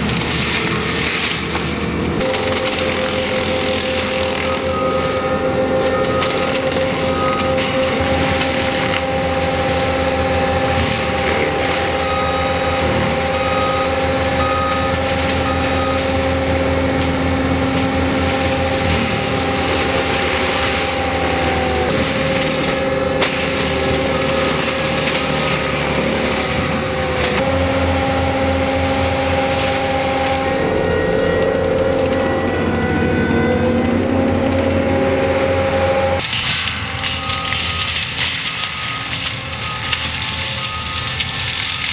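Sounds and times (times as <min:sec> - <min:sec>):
forestry mulcher whine: 0:00.0 - 0:41.9
wood being ground up: 0:00.0 - 0:41.9.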